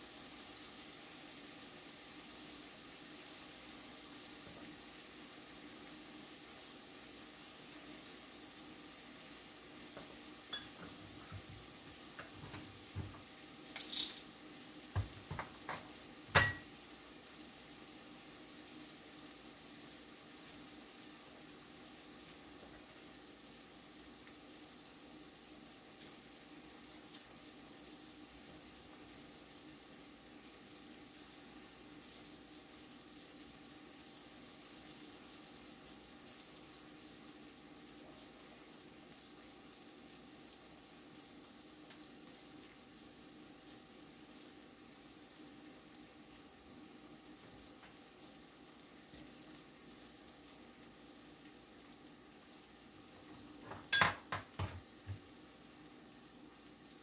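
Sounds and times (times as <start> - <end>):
meat sizzling in a skillet: 0.0 - 57.0.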